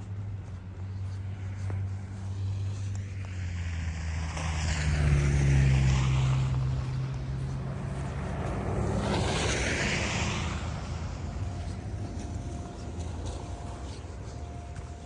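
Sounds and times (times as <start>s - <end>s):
engine hum: 0.0s - 15.0s.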